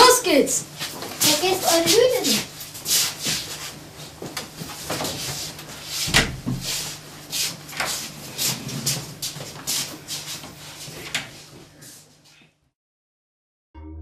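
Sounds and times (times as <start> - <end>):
children's footsteps and shuffling: 0.0 - 12.5.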